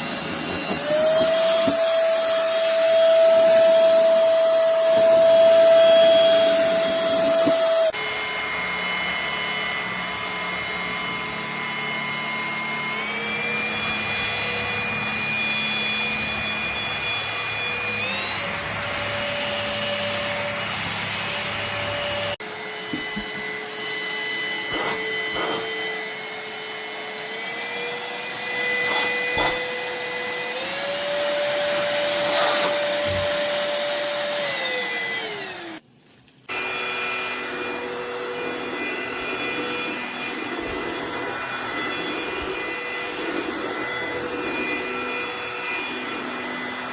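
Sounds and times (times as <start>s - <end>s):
stick vacuum motor whine: 0.0s - 35.8s, 36.5s - 46.9s.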